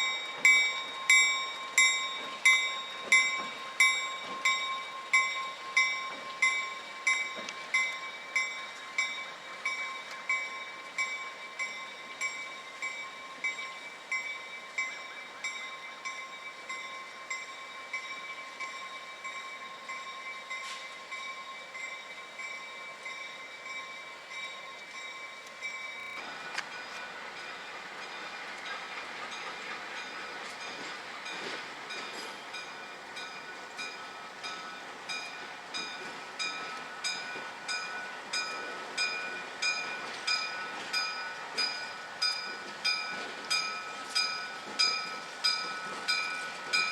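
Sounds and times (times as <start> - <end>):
railroad bell ringing: 0.0 - 46.9.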